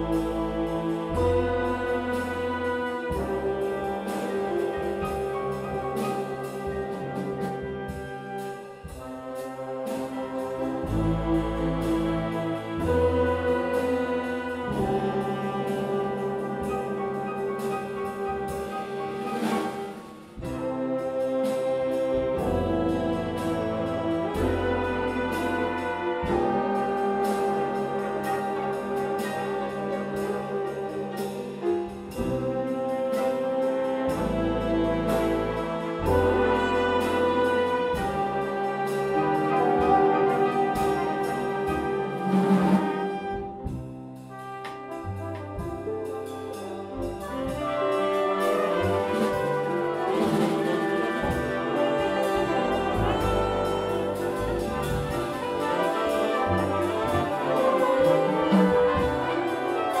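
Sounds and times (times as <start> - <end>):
big jazz band playing: 0.0 - 60.0.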